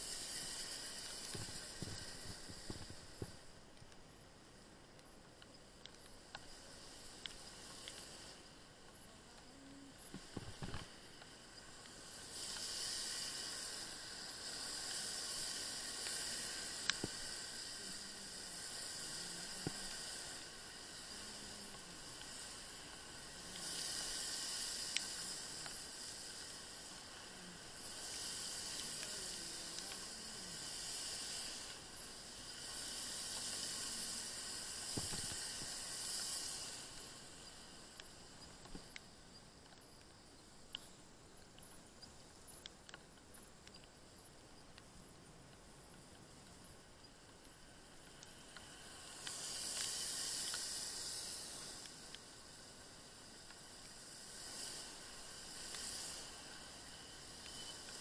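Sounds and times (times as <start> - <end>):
tyres hissing on wet road: 0.0 - 42.5, 45.6 - 58.0
faint ticks: 0.0 - 58.0.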